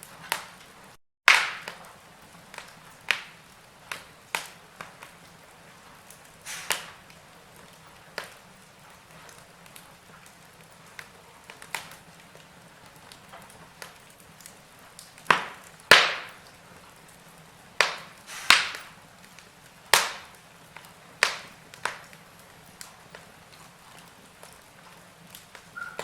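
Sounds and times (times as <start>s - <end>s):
fire hissing and crackling: 0.0s - 26.0s
loud sharp fire pops: 0.0s - 26.0s.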